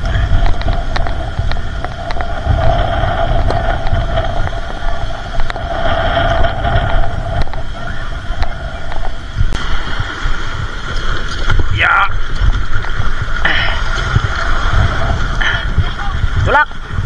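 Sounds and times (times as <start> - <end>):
motorboat engine drone: 0.0 - 17.0
wind buffeting microphone: 0.0 - 17.0.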